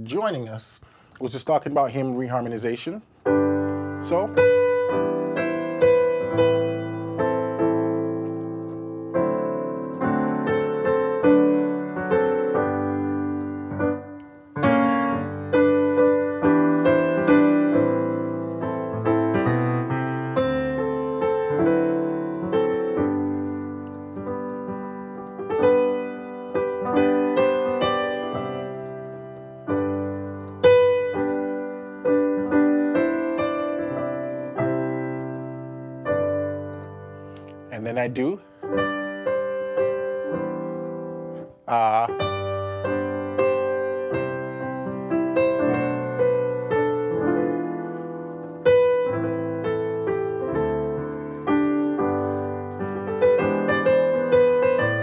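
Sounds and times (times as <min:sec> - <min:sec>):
piano chords: 0:01.3 - 0:55.0.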